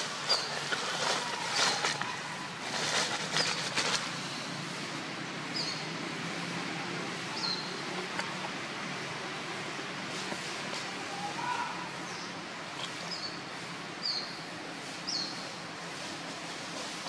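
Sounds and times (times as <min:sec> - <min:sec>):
dry leaves rustling: 0:00.0 - 0:05.8, 0:07.0 - 0:17.0.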